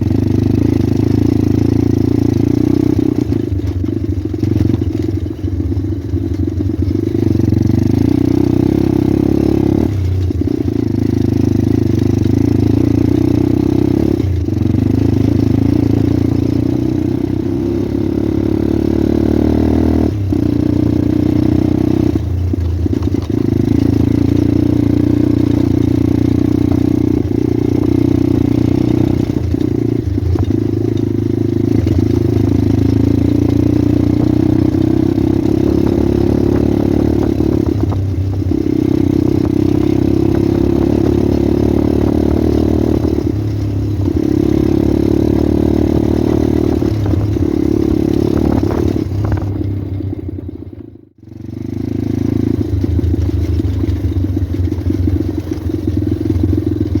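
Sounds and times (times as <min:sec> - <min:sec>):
motorbike engine running: 0:00.0 - 0:57.0.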